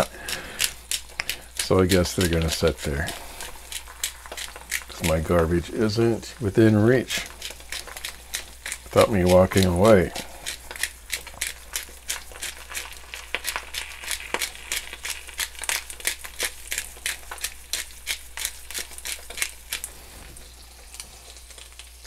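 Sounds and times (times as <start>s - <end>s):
eggs frying crackles and pops: 0.0s - 22.0s.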